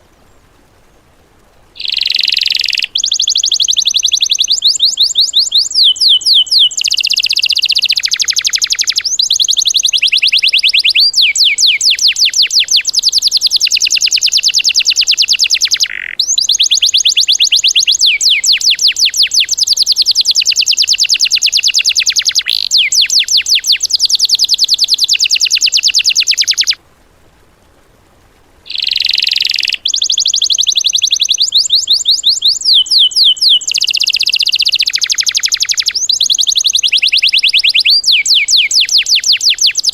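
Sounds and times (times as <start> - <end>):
songbird singing fast trills: 1.8 - 26.8, 28.7 - 39.9.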